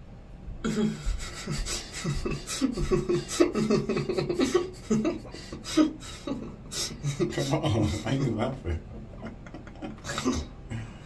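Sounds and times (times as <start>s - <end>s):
breathy laughter: 0.6s - 11.0s.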